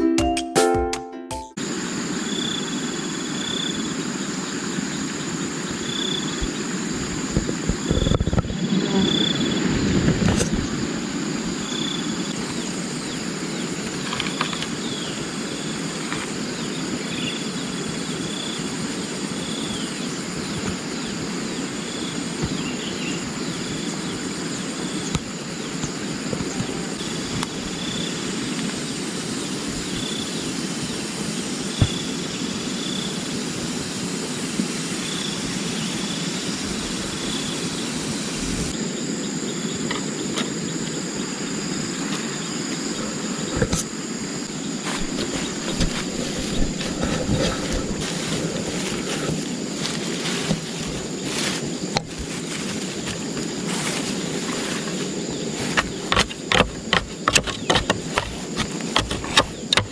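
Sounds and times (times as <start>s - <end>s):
insects buzzing: 1.6s - 59.9s.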